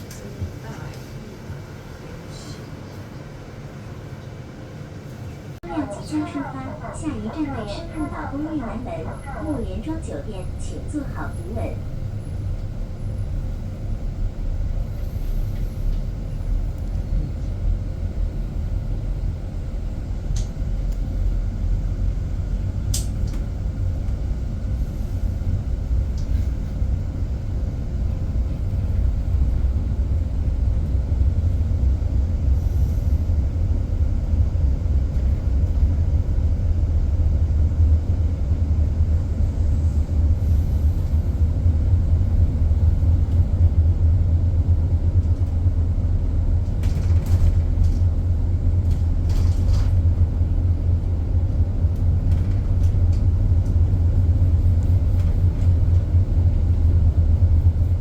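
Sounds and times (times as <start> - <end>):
bus road rumble: 0.0 - 58.0.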